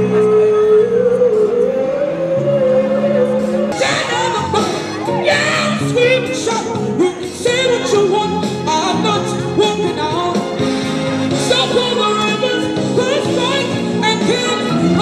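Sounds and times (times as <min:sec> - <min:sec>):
woman singing into microphone: 0:00.0 - 0:10.4, 0:11.4 - 0:15.0
backing track: 0:00.0 - 0:15.0.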